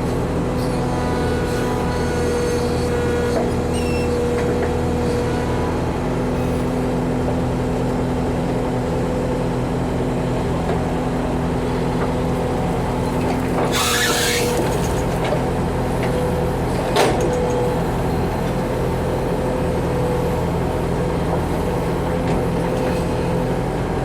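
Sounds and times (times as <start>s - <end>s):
diesel engine running steadily: 0.0s - 24.0s.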